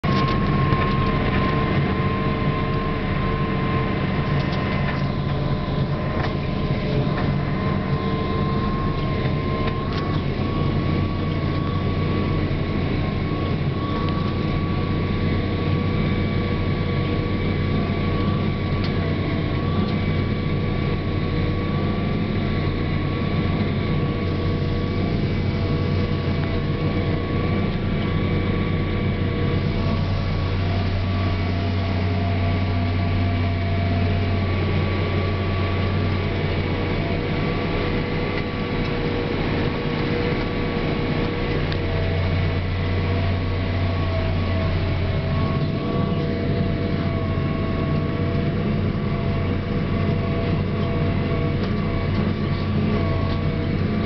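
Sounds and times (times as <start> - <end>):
steady whine: 0.0 - 54.0
tractor diesel engine running: 0.0 - 54.0.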